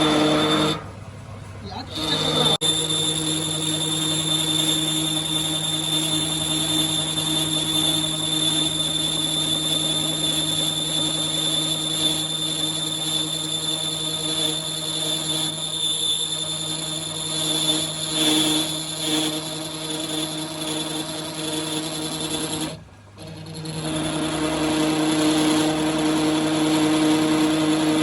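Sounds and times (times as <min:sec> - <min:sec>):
power tool humming with whine: 0:00.0 - 0:00.9, 0:01.7 - 0:28.0.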